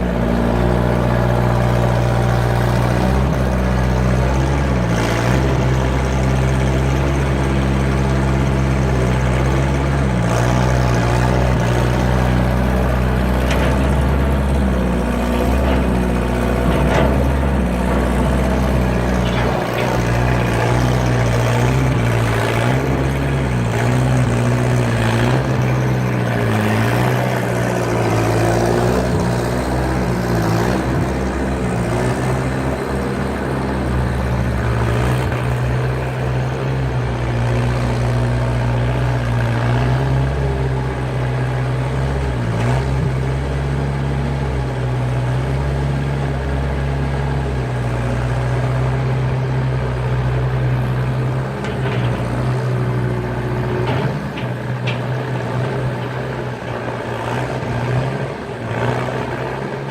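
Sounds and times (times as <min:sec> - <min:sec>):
loader engine running: 0:00.0 - 0:59.9.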